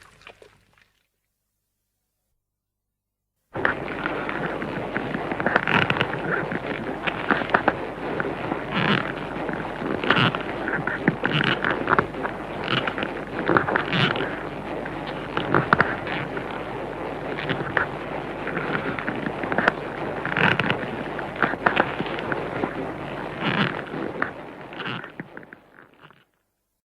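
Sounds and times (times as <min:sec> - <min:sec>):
monster rumbling with crackling bursts: 0:03.6 - 0:26.2.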